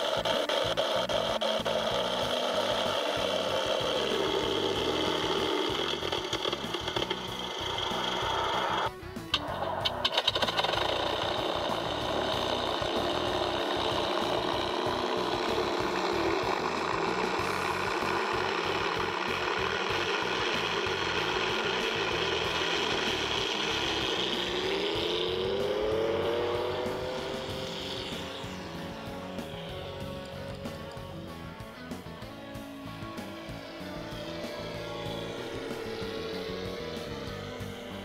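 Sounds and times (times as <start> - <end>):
simulated piston aircraft engine: 0.0 - 38.0.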